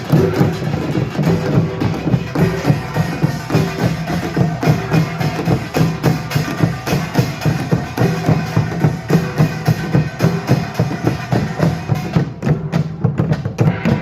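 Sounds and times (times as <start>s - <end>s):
drums struck: 0.0s - 14.0s.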